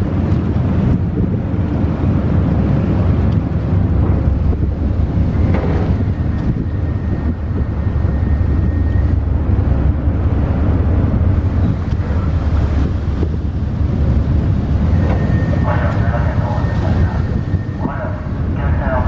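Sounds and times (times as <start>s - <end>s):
engine noise: 0.0s - 19.0s
wind buffeting microphone: 0.0s - 19.0s.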